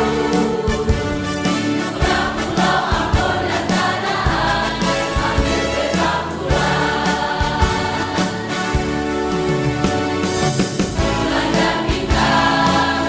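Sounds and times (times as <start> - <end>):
choir singing sustained notes: 0.0 - 9.6, 10.9 - 13.0.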